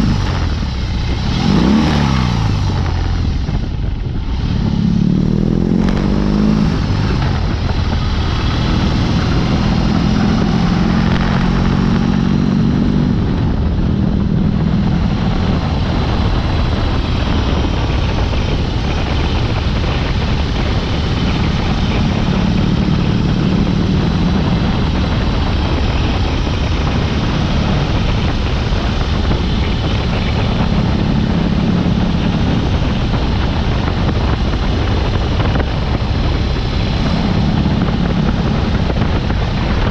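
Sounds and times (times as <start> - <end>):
motorcycle engine while riding: 0.0 - 39.9
wind rush: 0.0 - 39.9.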